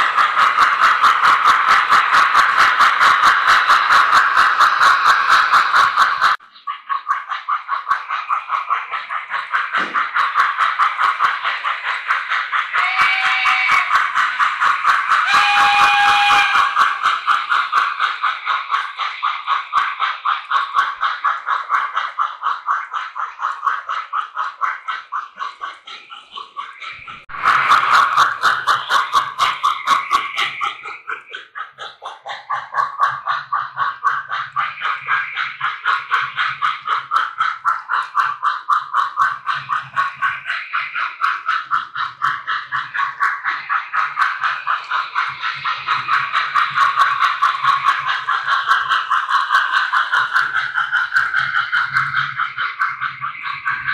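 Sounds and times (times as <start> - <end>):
model steam locomotive chuffing: 0.0 - 53.9.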